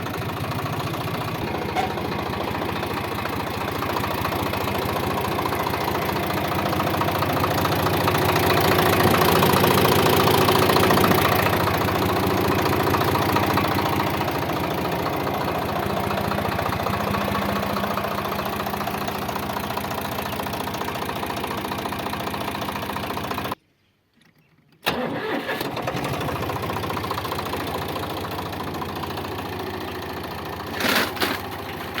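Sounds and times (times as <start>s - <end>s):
tractor diesel engine running: 0.0s - 23.6s, 24.8s - 32.0s.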